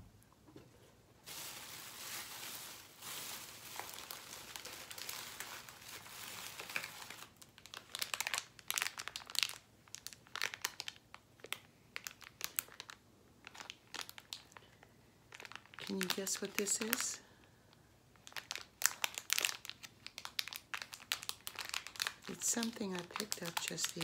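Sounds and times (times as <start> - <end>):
plastic packaging crinkling: 1.2 - 17.2, 18.1 - 24.0.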